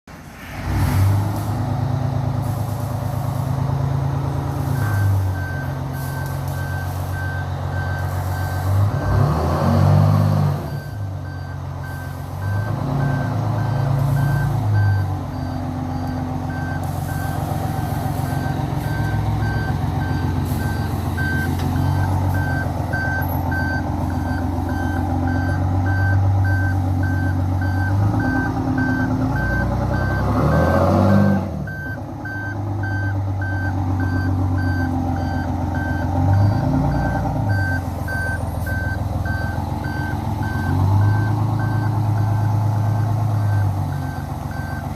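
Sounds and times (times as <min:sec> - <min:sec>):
truck engine running: 0:00.1 - 0:44.9
reversing alarm beeping: 0:04.6 - 0:09.6, 0:10.2 - 0:44.9.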